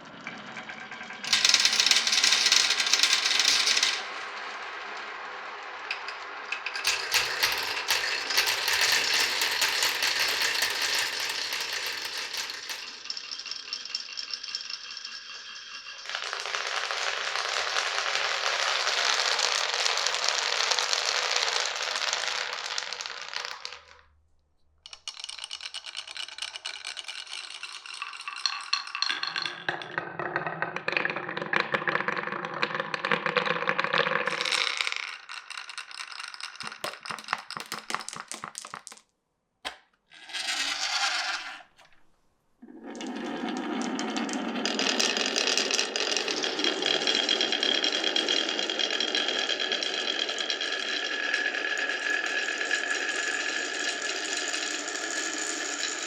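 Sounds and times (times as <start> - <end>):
marbles rolling through marble run: 0.0 - 24.1, 24.9 - 39.1, 40.1 - 42.0, 42.6 - 56.0.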